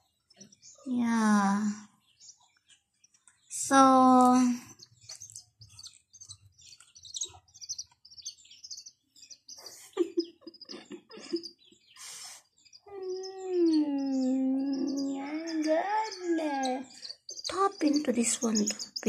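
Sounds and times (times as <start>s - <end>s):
chick peeping: 1.6s - 19.0s.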